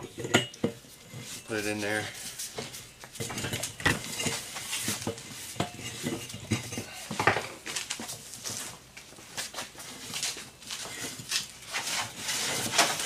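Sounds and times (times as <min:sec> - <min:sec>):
metal pipe clinking and scraping: 0:00.0 - 0:08.8, 0:09.7 - 0:13.0.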